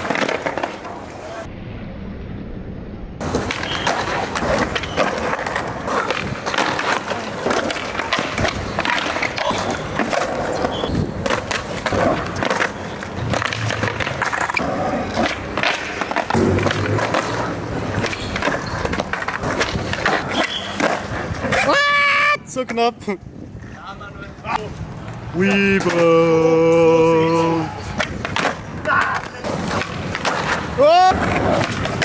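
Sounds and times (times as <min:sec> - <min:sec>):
skateboards clacking on concrete: 0:00.0 - 0:01.5, 0:03.2 - 0:32.0
skateboard wheels rolling: 0:00.0 - 0:01.9, 0:03.2 - 0:32.0.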